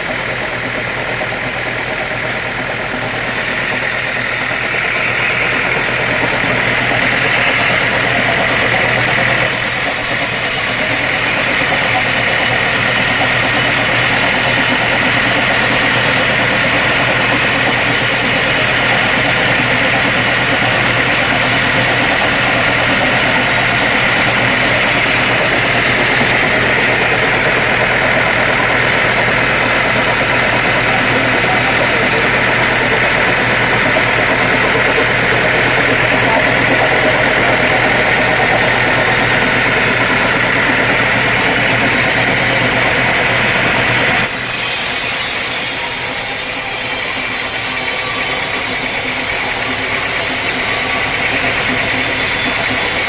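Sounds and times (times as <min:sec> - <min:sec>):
sawmill machinery humming: 0:00.0 - 0:53.0.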